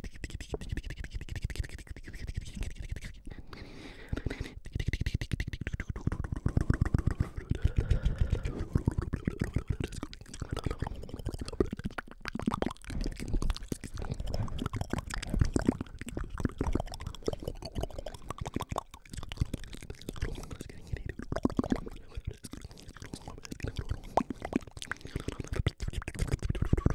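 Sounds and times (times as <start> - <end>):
person whispering: 0.0 - 26.9
wet mouth clicks and pops: 0.0 - 26.9.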